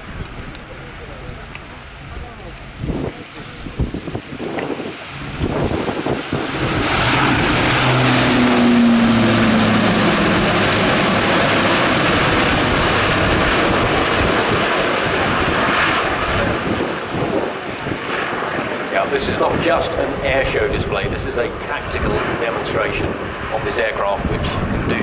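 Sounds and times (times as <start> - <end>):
turboprop aircraft roar: 0.0 - 25.0.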